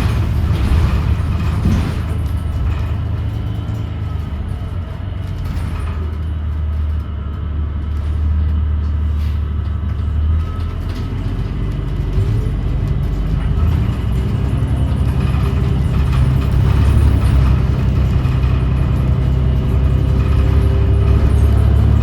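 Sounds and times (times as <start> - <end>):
bus drivetrain drone: 0.0 - 22.0.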